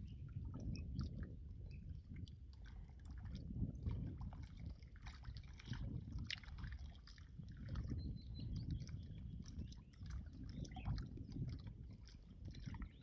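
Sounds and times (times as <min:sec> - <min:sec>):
low wind rumble on microphone: 0:00.0 - 0:13.0
water sloshing: 0:00.0 - 0:13.0.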